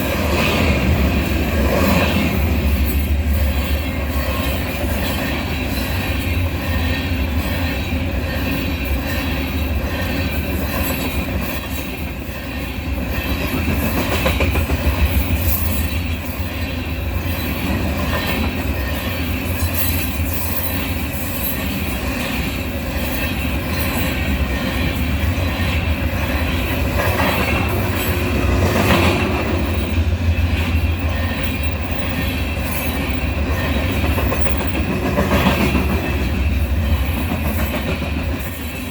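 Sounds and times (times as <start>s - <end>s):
freight train wheels rumbling: 0.0s - 38.9s
train wheel squeal: 0.0s - 38.9s.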